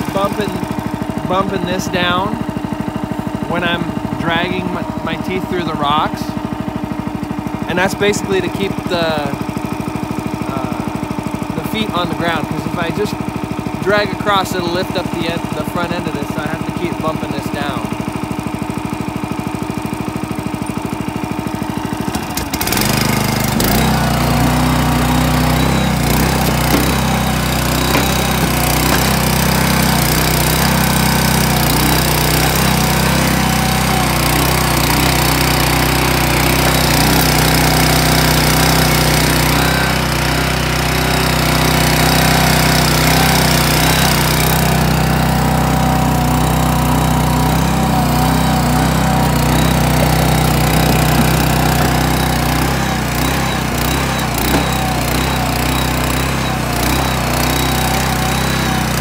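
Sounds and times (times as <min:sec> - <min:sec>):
small engine running under load: 0:00.0 - 0:59.0.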